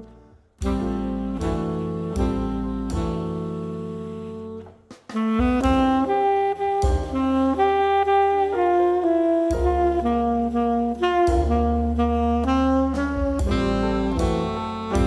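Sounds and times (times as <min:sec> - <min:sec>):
double bass: 0:00.0 - 0:15.0
drums: 0:00.0 - 0:15.0
piano: 0:00.0 - 0:15.0
saxophones playing held notes: 0:00.0 - 0:15.0.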